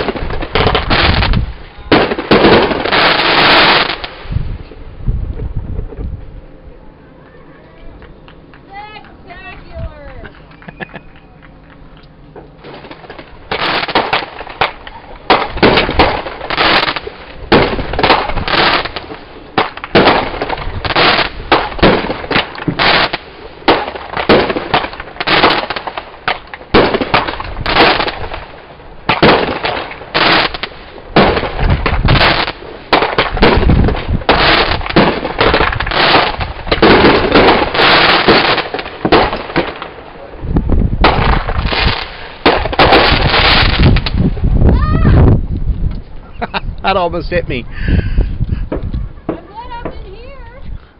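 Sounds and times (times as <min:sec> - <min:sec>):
fireworks banging and crackling: 0:00.0 - 0:06.1, 0:07.9 - 0:47.4, 0:48.4 - 0:50.7.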